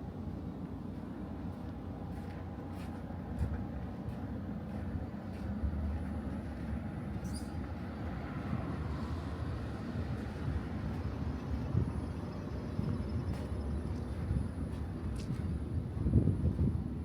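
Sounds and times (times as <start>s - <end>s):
tram wheels rumbling on rails: 1.0s - 17.0s.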